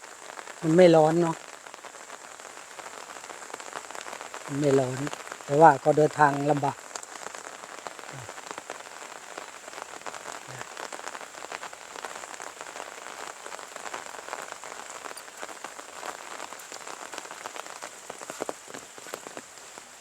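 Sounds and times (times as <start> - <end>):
drizzling rain: 0.0 - 20.0.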